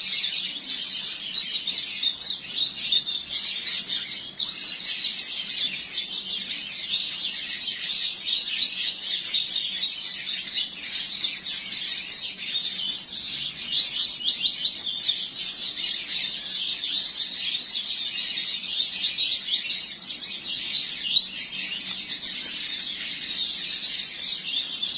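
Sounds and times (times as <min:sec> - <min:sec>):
bird singing high chirps: 0:00.0 - 0:24.9.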